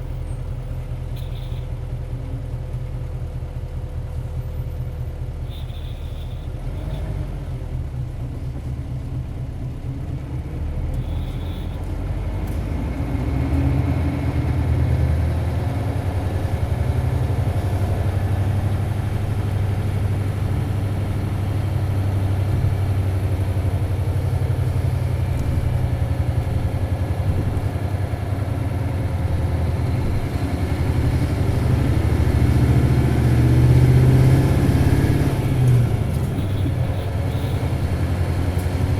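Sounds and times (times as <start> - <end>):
bus diesel engine droning: 0.0 - 38.9.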